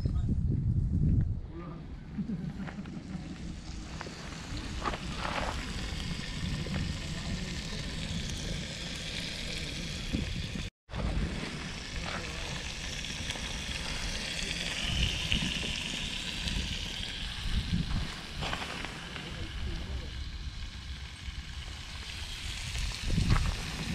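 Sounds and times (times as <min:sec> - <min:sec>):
wind rumble on microphone: 0:00.0 - 0:23.9
fish sizzling in oil: 0:03.5 - 0:23.9.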